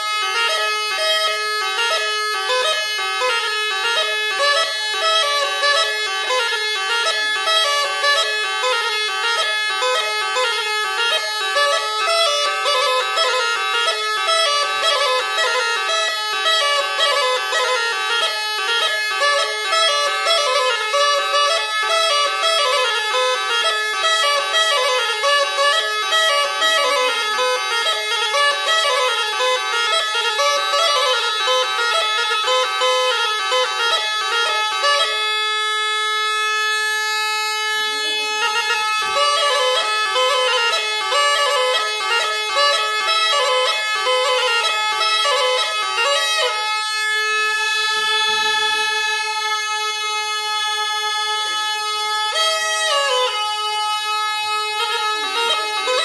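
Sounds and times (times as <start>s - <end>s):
bagpipe folk melody over drone: 0.0s - 56.0s.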